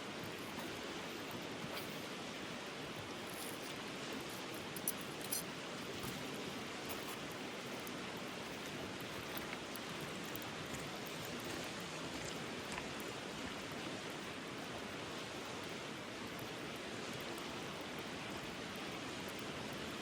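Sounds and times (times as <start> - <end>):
mountain stream flowing: 0.0 - 20.0.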